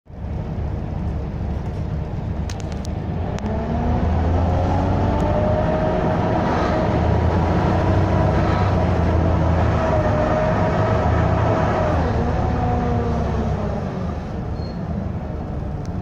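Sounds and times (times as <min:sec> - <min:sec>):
bus engine accelerating: 0:00.1 - 0:16.0.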